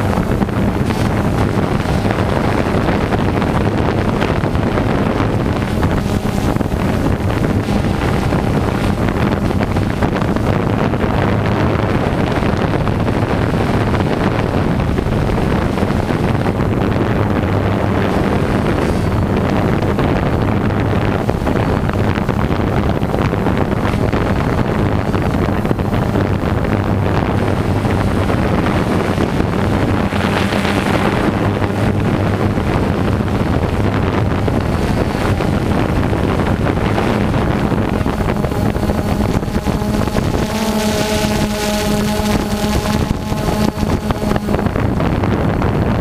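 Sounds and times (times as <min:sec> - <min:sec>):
drone propellers buzzing: 0:00.0 - 0:46.0
wind rushing over microphone: 0:00.0 - 0:46.0.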